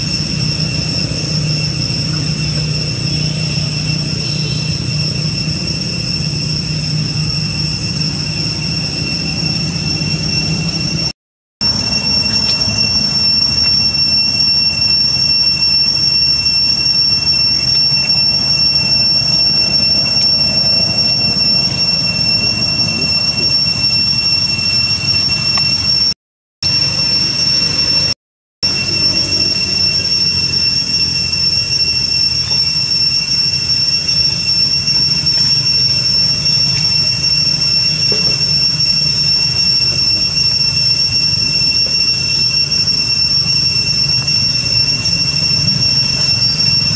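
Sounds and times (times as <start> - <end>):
cicada chorus drone: 0.0 - 46.9.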